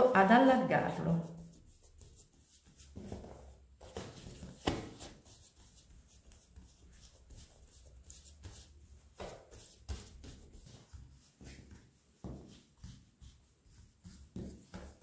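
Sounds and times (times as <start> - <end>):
hands patting and pressing dough: 0.3 - 15.0.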